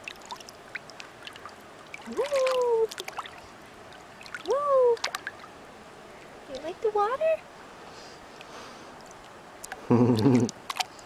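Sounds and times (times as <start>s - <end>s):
small splashes and drips: 0.0s - 5.6s, 6.2s - 7.0s, 8.4s - 11.0s
water lapping at shore: 0.0s - 11.0s.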